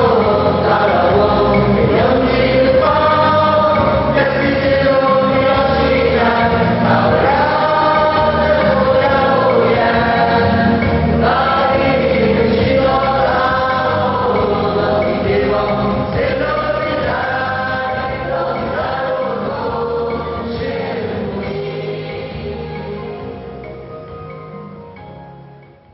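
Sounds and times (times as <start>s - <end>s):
choir singing a hymn: 0.0s - 23.7s.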